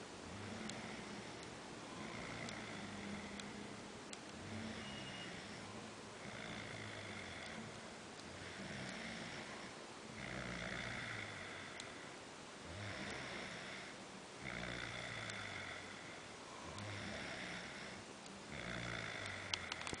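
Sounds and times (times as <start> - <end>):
person snoring: 0.2 - 3.7, 4.4 - 20.0.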